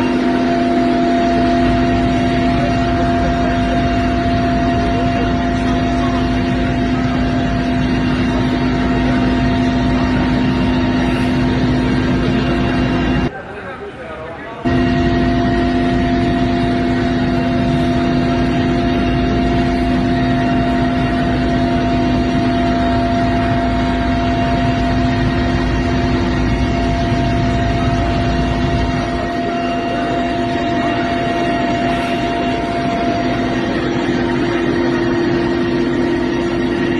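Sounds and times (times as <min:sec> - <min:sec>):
constant whining tones: 0:00.0 - 0:36.9
helicopter engine and rotor drone: 0:00.0 - 0:36.9.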